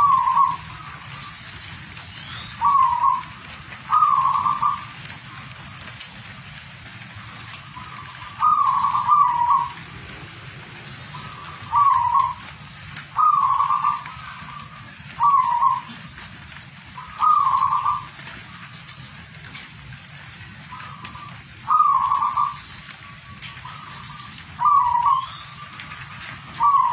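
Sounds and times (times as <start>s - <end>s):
dove cooing: 0.0s - 1.6s, 2.5s - 5.9s, 7.5s - 16.3s, 16.9s - 18.6s, 20.6s - 26.9s.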